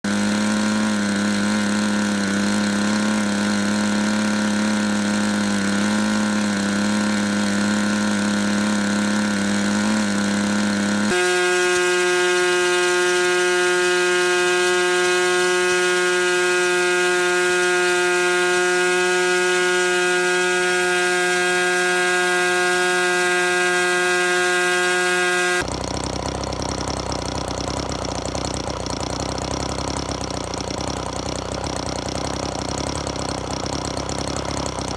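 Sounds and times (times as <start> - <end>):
model helicopter engine buzzing: 0.0 - 34.9.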